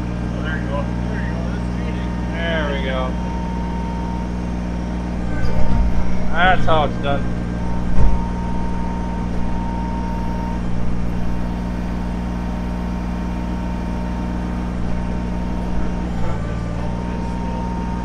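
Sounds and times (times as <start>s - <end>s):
diesel tractor engine running: 0.0s - 18.0s
thin high whine: 0.0s - 18.0s.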